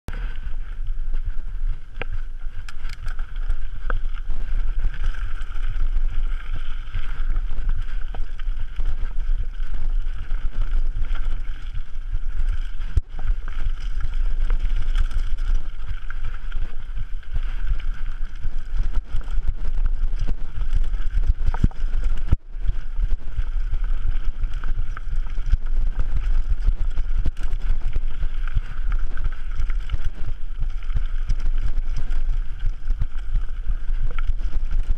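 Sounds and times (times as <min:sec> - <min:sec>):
wind noise on microphone: 0:00.1 - 0:34.9.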